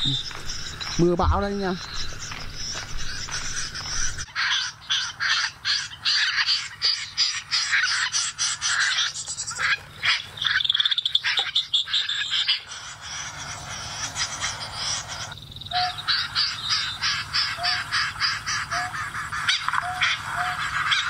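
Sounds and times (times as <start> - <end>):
rapid croaking chatter: 0.0 - 21.0
recorded bird calls over loudspeakers: 0.0 - 21.0.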